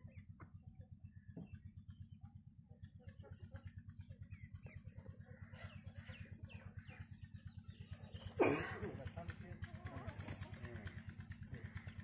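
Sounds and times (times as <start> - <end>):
low even throb: 0.0 - 12.0.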